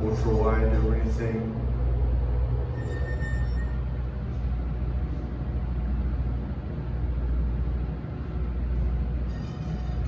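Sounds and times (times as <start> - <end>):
hydraulic elevator hum: 0.0 - 10.0.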